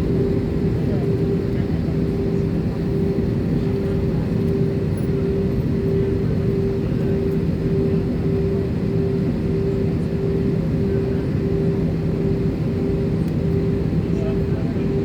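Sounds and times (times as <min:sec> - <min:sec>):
airliner engine drone: 0:00.0 - 0:15.0.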